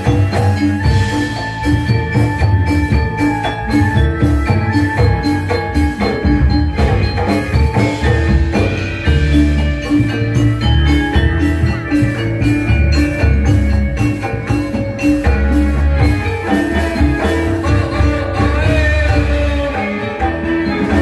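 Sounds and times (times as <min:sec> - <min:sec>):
drums: 0:00.0 - 0:21.0
gamelan music: 0:00.0 - 0:21.0
metallophones ringing: 0:00.0 - 0:21.0.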